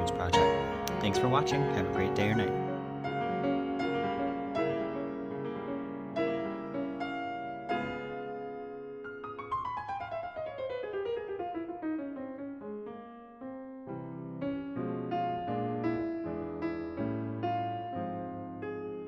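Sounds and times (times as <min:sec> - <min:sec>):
piano playing: 0:00.0 - 0:19.0.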